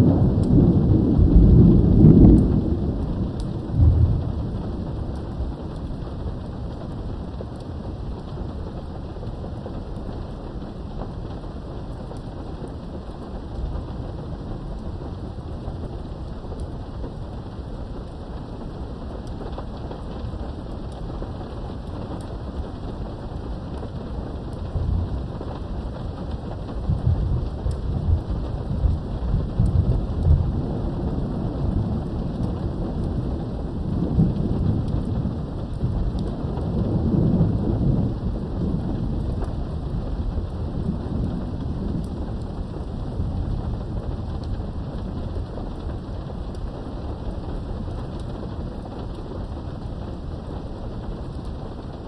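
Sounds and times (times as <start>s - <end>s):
rain behind a window: 0.0s - 52.0s
rolling thunder: 0.0s - 52.0s.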